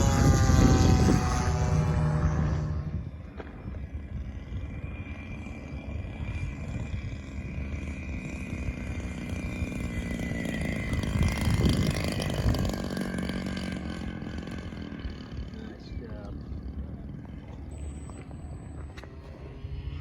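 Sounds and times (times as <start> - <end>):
low rumble: 0.0 - 20.0
model airplane motor whine: 0.0 - 20.0.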